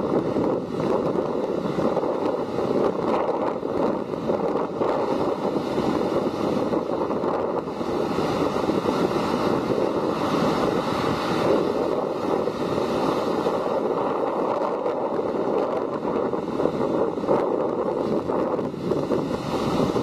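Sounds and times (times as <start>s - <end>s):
small waves breaking on sand: 0.0s - 20.0s.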